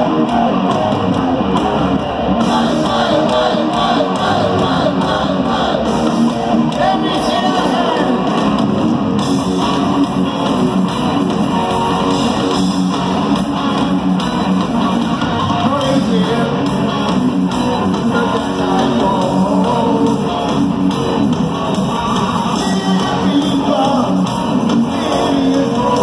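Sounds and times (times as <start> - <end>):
heavy electric guitar: 0.0 - 26.0
rock band playing loud: 0.0 - 26.0.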